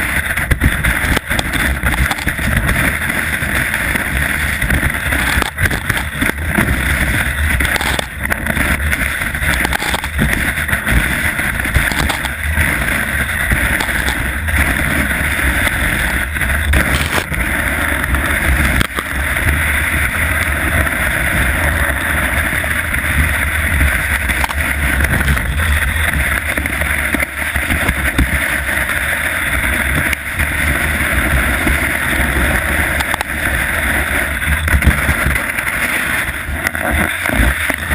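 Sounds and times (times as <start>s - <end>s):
skis scraping over snow: 0.0s - 37.9s
wind rumble on microphone: 0.0s - 37.9s.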